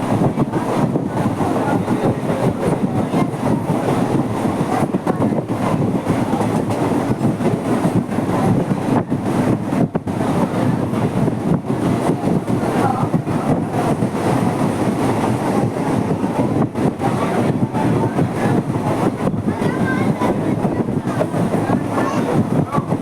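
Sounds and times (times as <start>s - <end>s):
train wheels rumbling and rattling: 0.0s - 23.0s.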